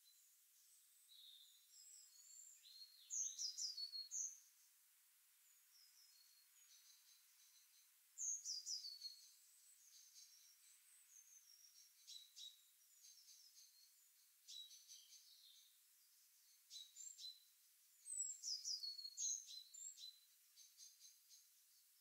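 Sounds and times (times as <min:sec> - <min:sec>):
small songbirds singing: 0:00.0 - 0:22.0.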